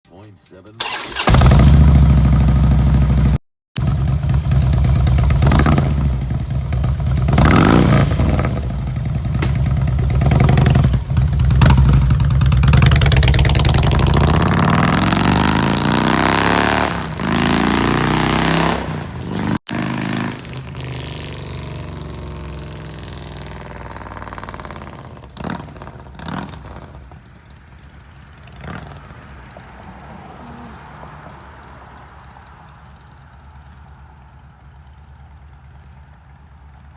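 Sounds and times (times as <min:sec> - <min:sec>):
motorcycle accelerating away: 0:00.8 - 0:34.9
motorcycle engine revving: 0:00.8 - 0:36.9.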